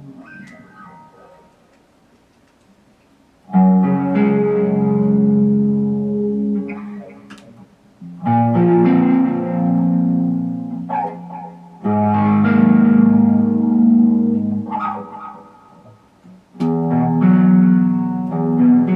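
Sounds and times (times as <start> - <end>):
ambient guitar chords: 0.0 - 1.6, 3.5 - 18.9.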